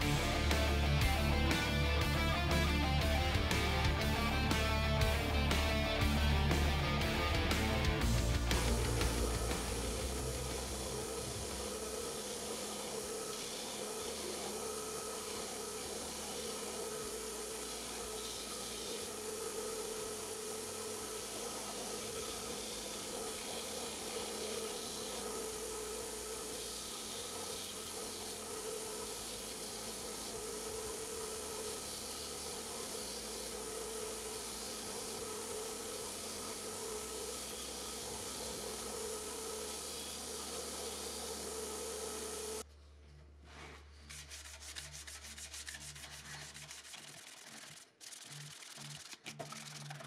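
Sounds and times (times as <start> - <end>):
belt grinder sanding wood: 0.0 - 42.6, 43.9 - 50.0.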